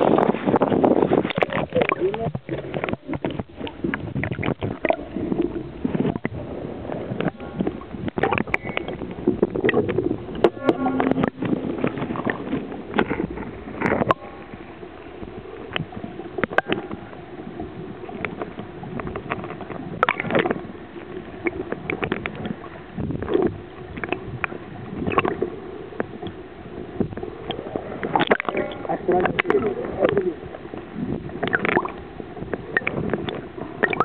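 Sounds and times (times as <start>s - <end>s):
muffled underwater drone: 0.0s - 34.0s
underwater clicks and knocks: 0.0s - 34.0s.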